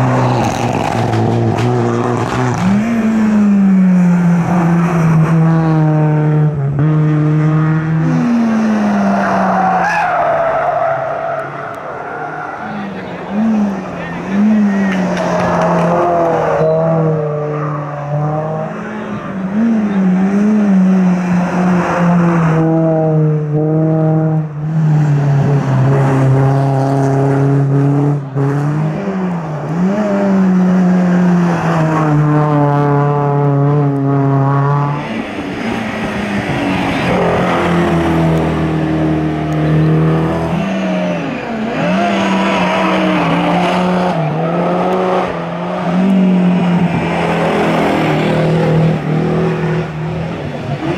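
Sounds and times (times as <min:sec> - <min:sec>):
race car engine at high revs: 0:00.0 - 0:50.9.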